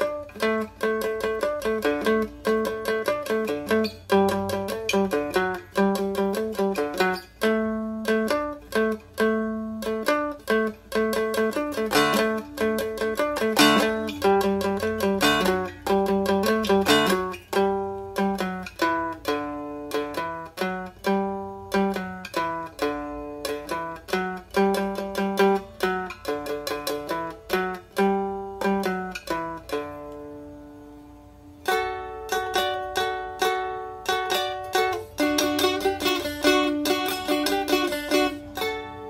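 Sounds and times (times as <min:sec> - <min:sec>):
plucked string melody: 0:00.0 - 0:39.0.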